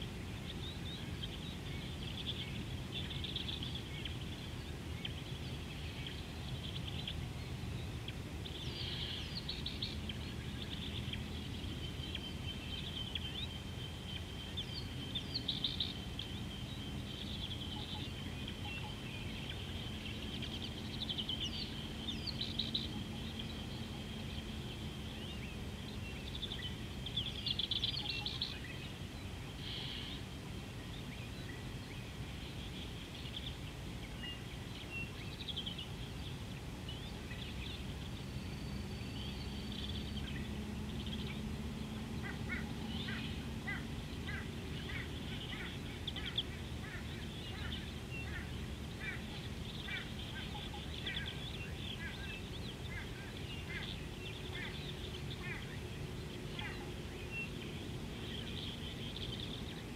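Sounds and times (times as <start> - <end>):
birds chirping: 0.0 - 59.9
low background rumble: 0.0 - 59.9.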